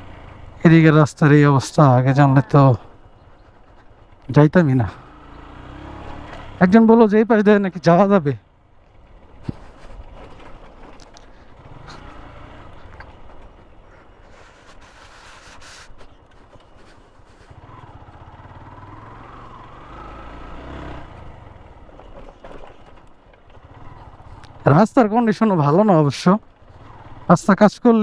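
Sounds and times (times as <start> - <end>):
motorcycle engine running: 0.0 - 7.0, 8.4 - 15.0, 16.3 - 24.8, 26.4 - 27.3.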